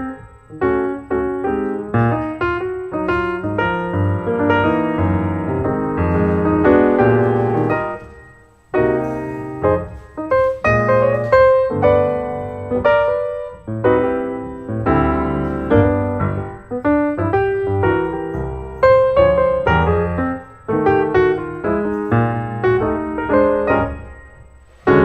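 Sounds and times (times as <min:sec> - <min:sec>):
piano chords over bass line: 0:00.0 - 0:25.0.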